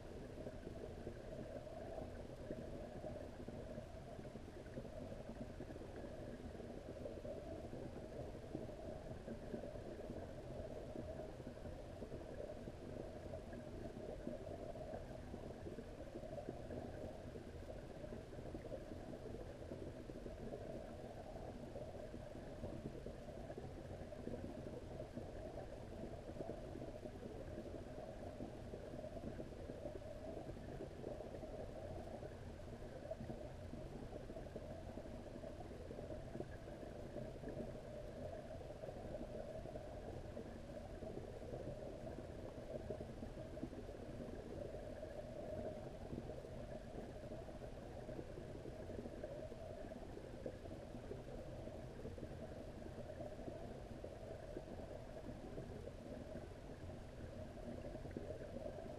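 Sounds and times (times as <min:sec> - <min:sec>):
muffled underwater rumble: 0:00.0 - 0:58.9.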